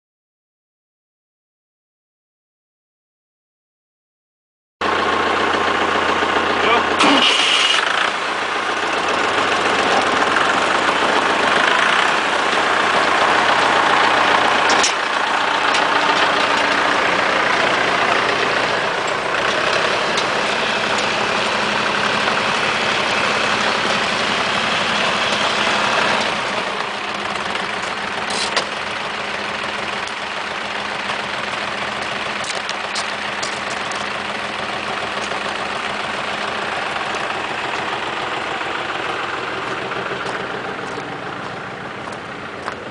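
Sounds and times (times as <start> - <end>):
tractor engine running: 4.8 - 42.9.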